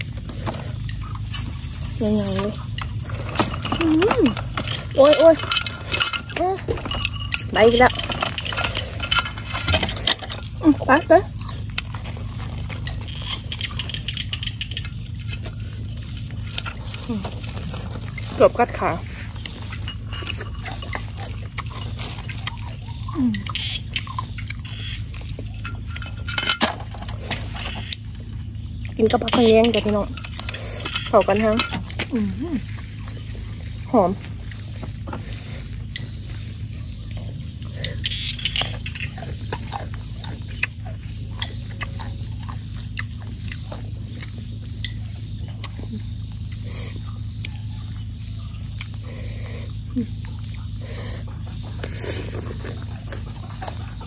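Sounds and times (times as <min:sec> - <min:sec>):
crunching and chewing food: 0:00.0 - 0:54.0
steady low hum: 0:00.0 - 0:54.0.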